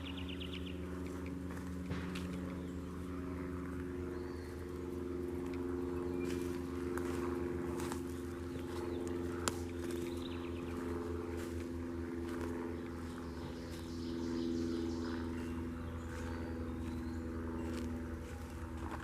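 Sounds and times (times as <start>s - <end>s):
engine droning: 0.0s - 19.0s
footsteps crunching on leaves: 1.0s - 19.0s.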